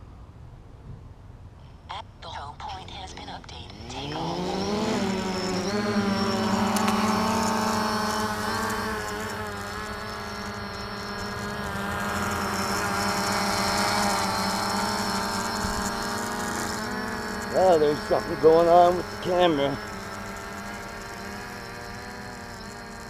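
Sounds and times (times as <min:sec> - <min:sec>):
drone motors humming: 0:03.0 - 0:23.0.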